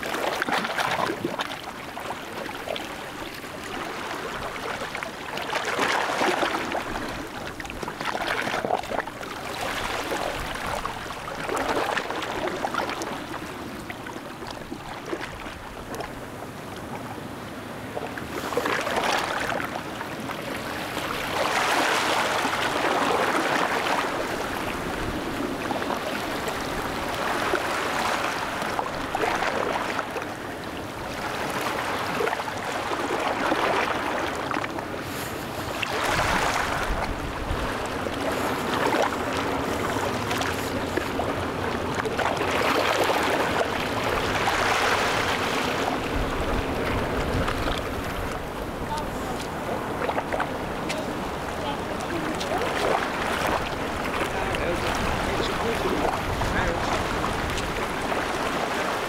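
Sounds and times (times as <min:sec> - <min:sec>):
water washing in small waves: 0:00.0 - 0:59.0.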